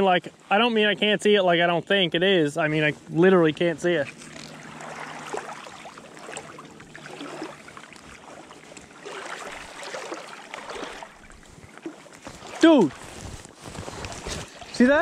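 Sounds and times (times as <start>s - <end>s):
moving water: 0.0s - 15.0s.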